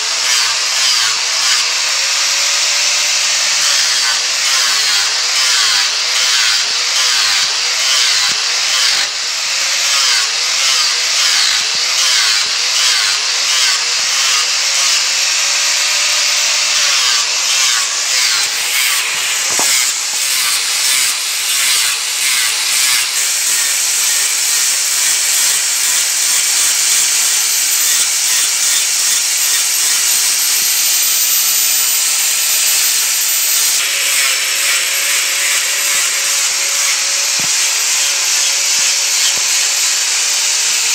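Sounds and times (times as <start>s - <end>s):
angle grinder grinding wood: 0.0s - 40.9s.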